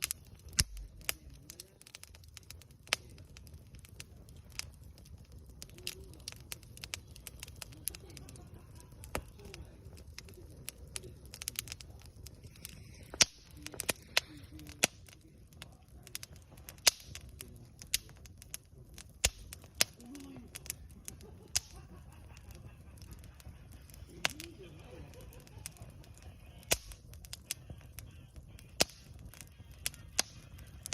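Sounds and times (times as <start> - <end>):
campfire crackling: 0.0 - 30.9.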